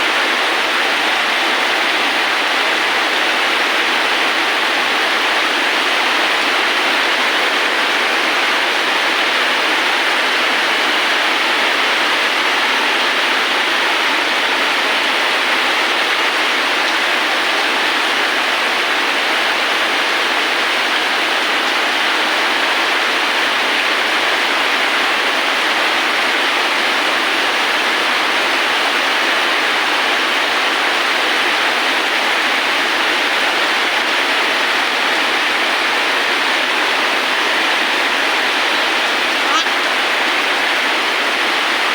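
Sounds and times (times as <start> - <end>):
heavy rain hiss: 0.0 - 41.9.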